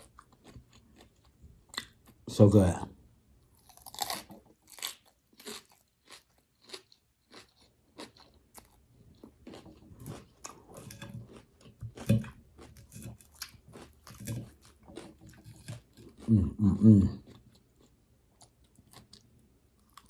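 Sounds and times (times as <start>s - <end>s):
crunchy chewing of vegetables: 0.0s - 2.2s, 3.5s - 20.0s.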